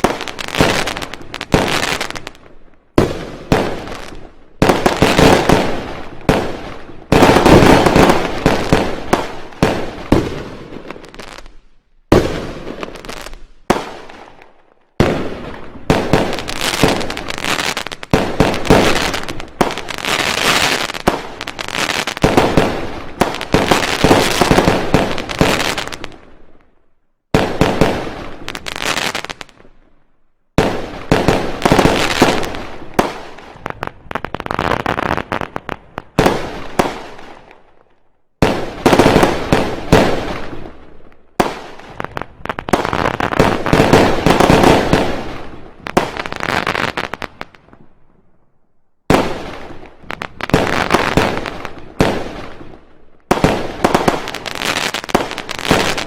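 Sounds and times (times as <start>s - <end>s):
firecracker bangs and crackling: 0.0s - 26.5s, 27.3s - 29.8s, 30.6s - 37.8s, 38.4s - 47.9s, 49.1s - 56.0s.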